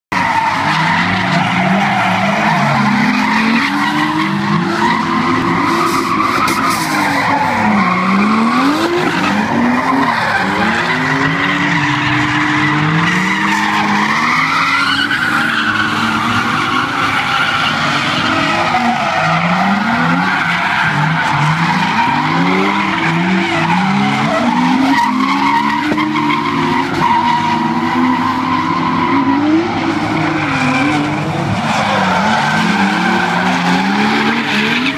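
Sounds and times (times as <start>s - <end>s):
car engines revving: 0.1s - 34.9s.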